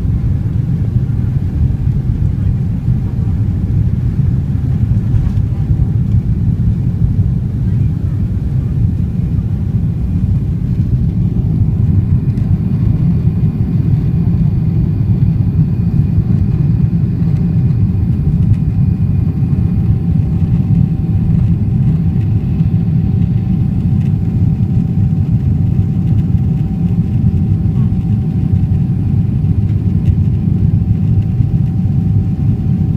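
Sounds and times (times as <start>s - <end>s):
faint steady whine: 0.0s - 32.9s
jet engine cabin rumble: 0.0s - 32.9s.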